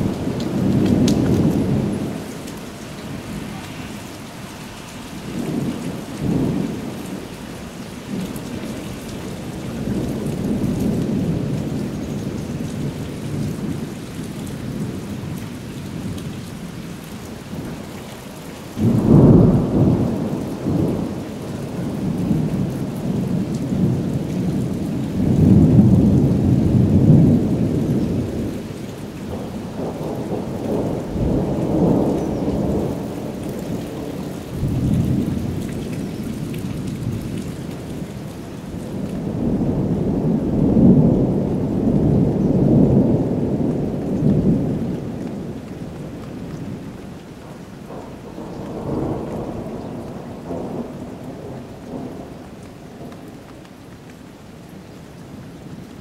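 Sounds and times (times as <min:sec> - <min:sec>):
thunder rumbling: 0:00.0 - 0:16.7, 0:18.8 - 0:46.9, 0:47.5 - 0:53.3
steady rain: 0:00.0 - 0:56.0.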